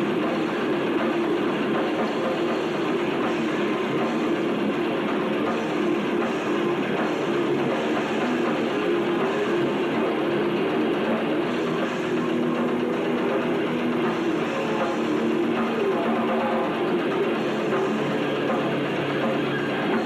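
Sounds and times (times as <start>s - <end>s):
metal band playing live: 0.0s - 20.0s.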